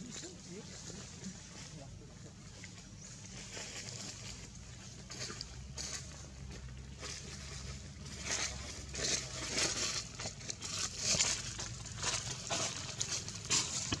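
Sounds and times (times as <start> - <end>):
leaves and twigs rustling: 0.0 - 14.0
low steady hum: 0.0 - 14.0.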